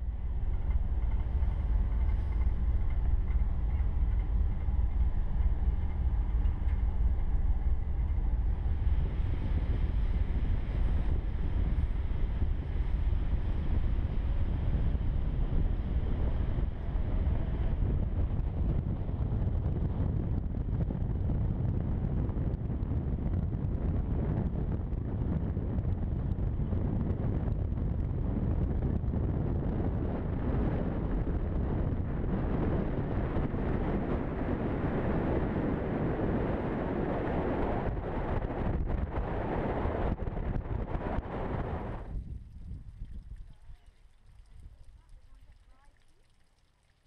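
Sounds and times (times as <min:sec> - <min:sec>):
wind buffeting microphone: 0:00.0 - 0:45.8.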